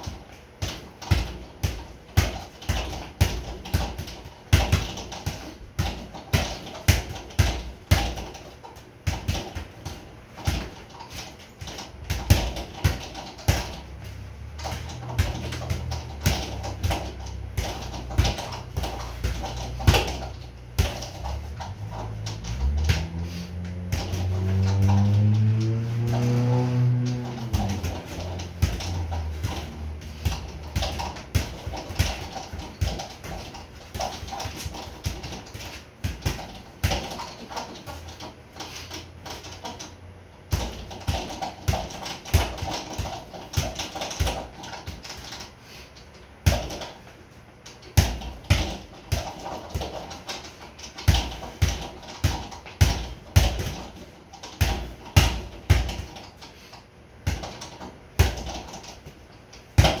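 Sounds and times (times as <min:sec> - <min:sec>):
boxing gloves punching a bag: 0:00.0 - 0:39.9, 0:40.5 - 0:45.6, 0:46.4 - 0:47.0, 0:47.7 - 1:00.0.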